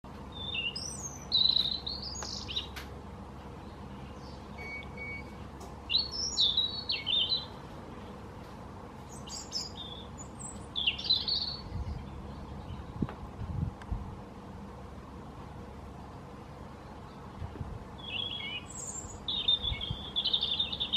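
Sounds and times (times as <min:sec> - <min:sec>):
robin singing: 0:00.1 - 0:08.2, 0:09.0 - 0:13.1, 0:16.0 - 0:20.9.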